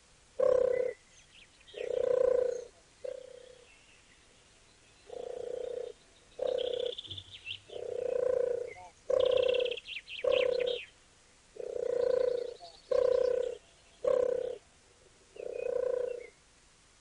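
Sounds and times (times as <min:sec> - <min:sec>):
low bird calls: 0:00.4 - 0:11.0, 0:11.6 - 0:14.7, 0:15.3 - 0:16.4.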